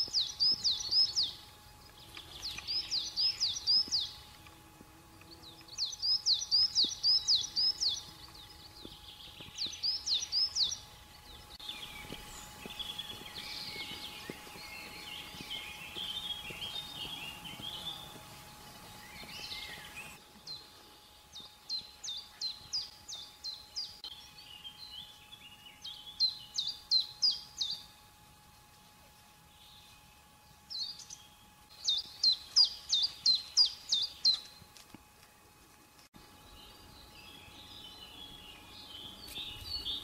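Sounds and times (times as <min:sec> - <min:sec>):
small songbirds singing: 0:00.0 - 0:28.7, 0:29.5 - 0:34.7, 0:36.2 - 0:40.0
faint steady hum: 0:00.0 - 0:40.0.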